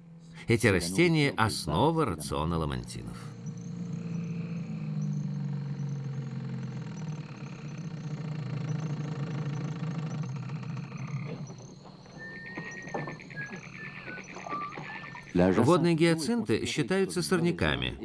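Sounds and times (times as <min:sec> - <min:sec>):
small boat motor running: 0:00.8 - 0:15.6.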